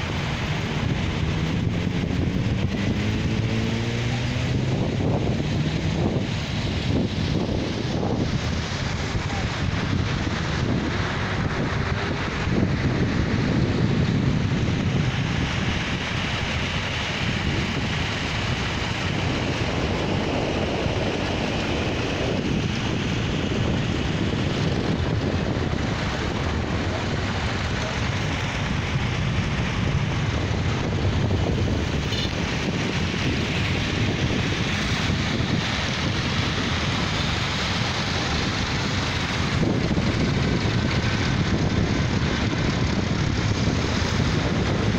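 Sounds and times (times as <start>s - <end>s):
tractor engines droning: 0.0s - 44.9s
wind buffeting microphone: 0.0s - 44.9s.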